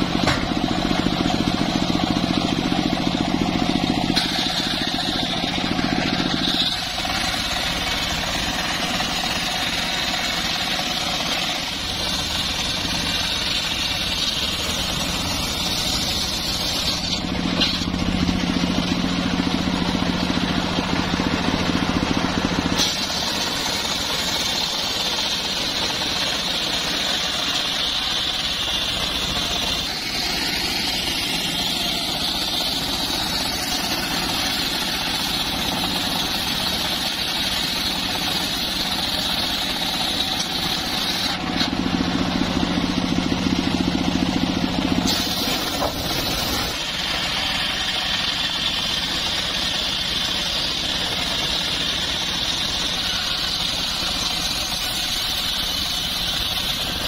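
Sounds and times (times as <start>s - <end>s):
engine drone: 0.0s - 57.0s
saw blade whining through timber: 0.0s - 57.0s.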